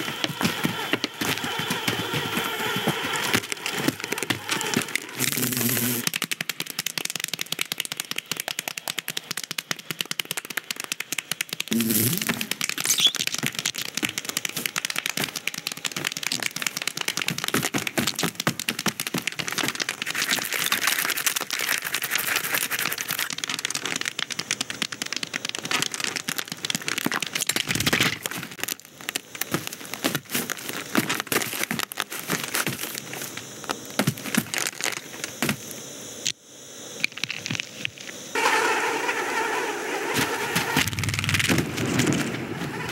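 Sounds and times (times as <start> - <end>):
dense crackle of small clicks: 0.0 - 35.6, 37.0 - 38.6, 40.8 - 42.9.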